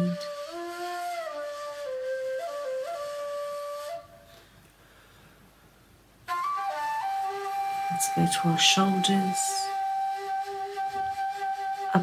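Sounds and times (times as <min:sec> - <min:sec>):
ney flute slow melody: 0:00.0 - 0:04.6, 0:06.2 - 0:12.0.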